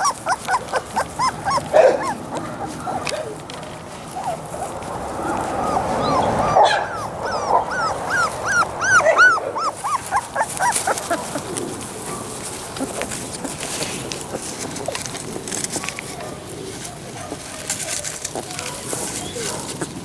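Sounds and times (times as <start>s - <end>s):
puppy whining: 0.0s - 15.0s, 17.2s - 20.0s.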